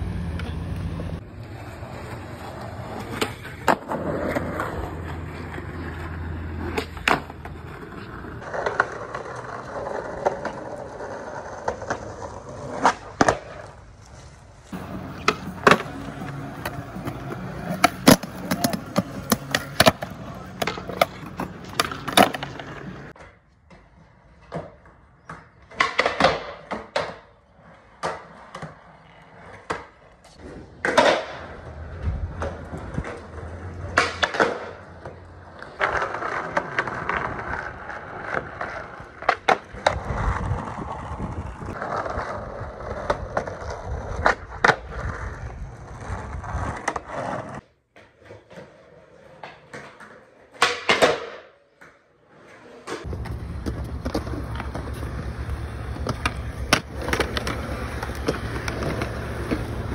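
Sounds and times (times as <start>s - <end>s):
skateboard wheels rolling on concrete: 0.0s - 59.9s
skateboard clacking and landing: 2.9s - 13.8s, 14.7s - 27.4s, 28.0s - 45.2s, 46.7s - 59.9s.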